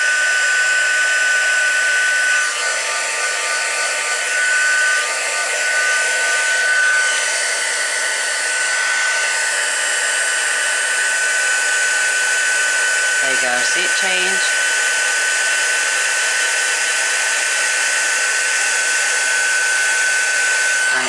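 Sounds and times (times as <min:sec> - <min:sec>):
heat gun blowing with whine: 0:00.0 - 0:21.0.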